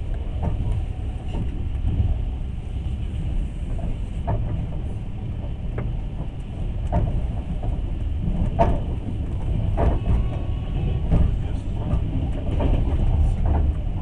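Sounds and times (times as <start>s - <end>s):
sharp knocks of train: 0.0s - 14.0s
train rumbling on rails: 0.0s - 14.0s.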